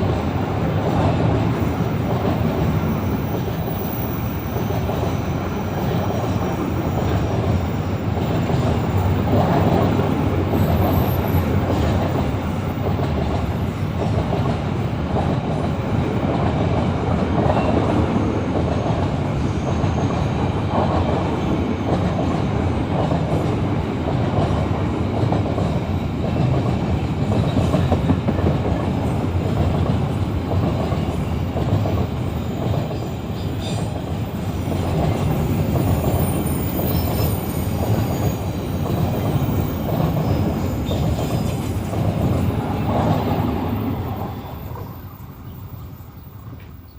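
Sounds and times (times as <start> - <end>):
clickety-clack over rail joints: 0.0 - 45.0
train wheels rumbling on rails: 0.0 - 46.9.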